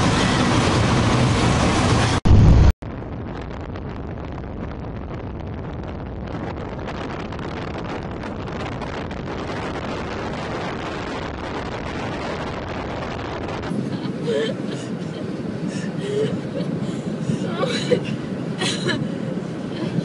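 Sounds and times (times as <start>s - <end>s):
road noise: 0.0s - 3.5s, 6.3s - 20.0s
wind buffeting microphone: 0.0s - 20.0s
wind rushing: 0.0s - 20.0s.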